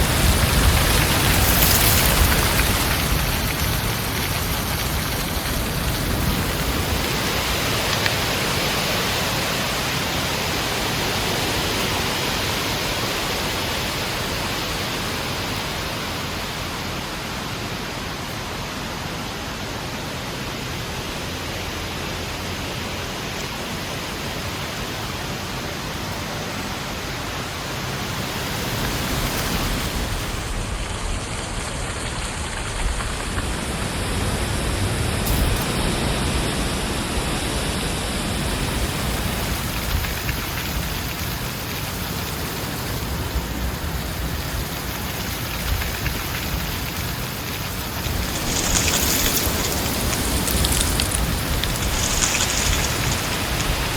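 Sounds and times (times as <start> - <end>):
heavy wind blowing: 0.0 - 53.9.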